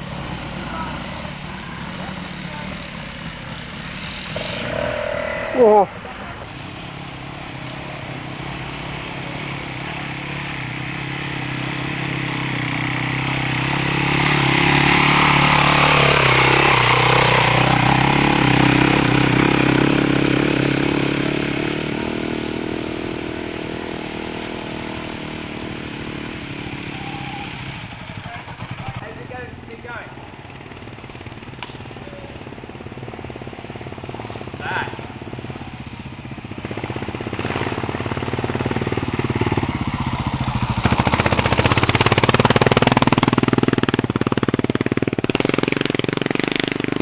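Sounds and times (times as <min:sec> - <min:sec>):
motorcycle engine under throttle: 0:00.0 - 0:47.0.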